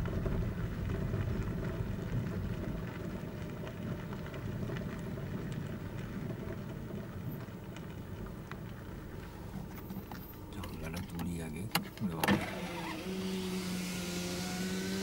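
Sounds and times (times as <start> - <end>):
gravel crackling under tyres: 0.0 - 15.0
vehicle low rumble: 0.0 - 15.0.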